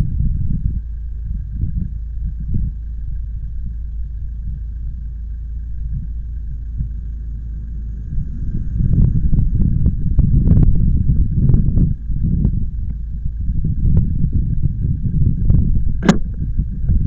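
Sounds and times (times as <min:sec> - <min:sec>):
faint high whine: 0:00.0 - 0:17.0
wind and road riding noise: 0:00.0 - 0:17.0.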